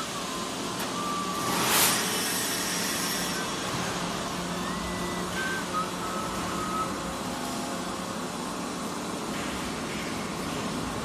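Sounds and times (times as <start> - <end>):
machine shop hum: 0.0 - 11.0.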